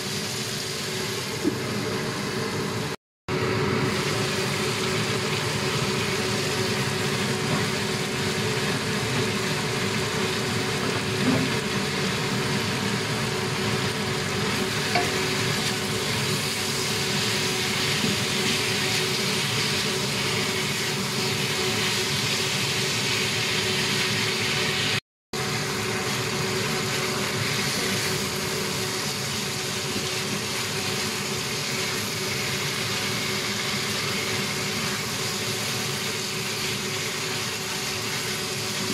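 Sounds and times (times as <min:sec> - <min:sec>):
meat sizzling in a wok: 0:00.0 - 0:38.9.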